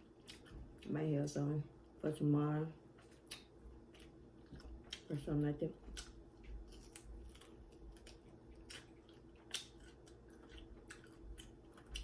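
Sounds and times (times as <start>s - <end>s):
person chewing: 0.0s - 0.9s, 2.9s - 12.0s.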